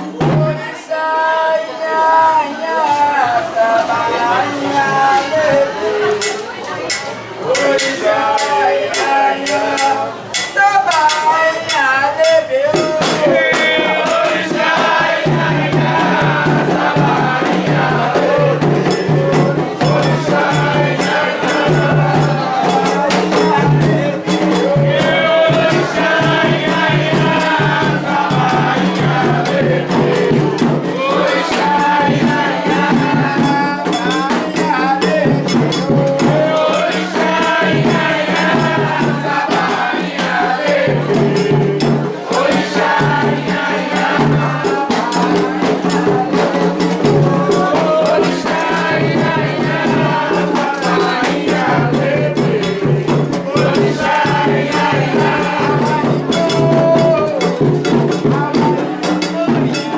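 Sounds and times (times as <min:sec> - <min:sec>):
steady drum beat: 0:00.0 - 0:00.7, 0:03.3 - 0:59.9
group of voices chanting: 0:00.0 - 0:59.9.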